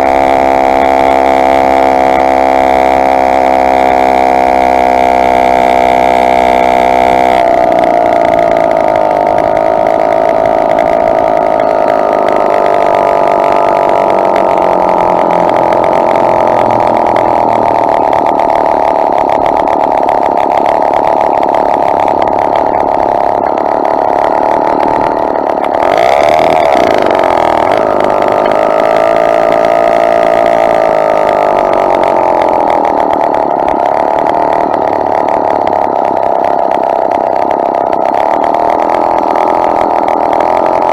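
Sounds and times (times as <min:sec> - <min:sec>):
motorized bicycle engine running: 0:00.0 - 0:40.9.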